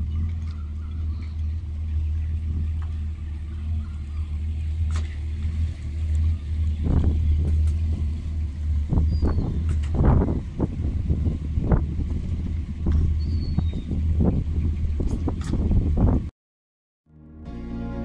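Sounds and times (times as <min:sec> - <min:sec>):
boat engine rumbling: 0:00.0 - 0:16.3, 0:17.1 - 0:18.0.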